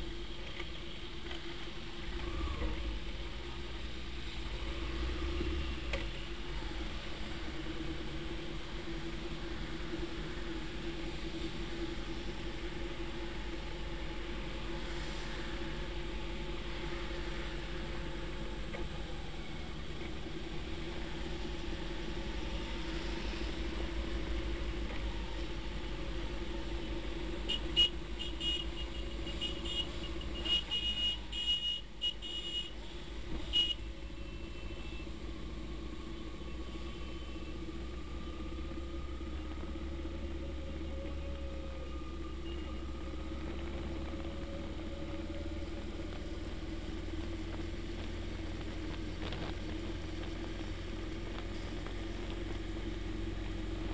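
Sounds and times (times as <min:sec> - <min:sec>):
vehicle engine and road noise: 0:00.0 - 0:53.9.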